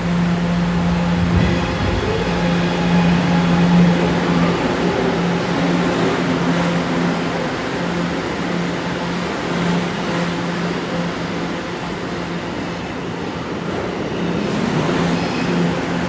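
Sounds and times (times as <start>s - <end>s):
low hum: 0.0s - 13.2s
subway wheels rumbling on rails: 0.0s - 16.0s.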